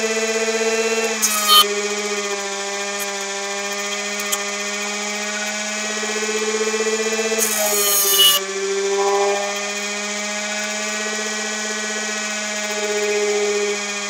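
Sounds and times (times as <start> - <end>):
motor generator buzzing hum: 0.0 - 14.0.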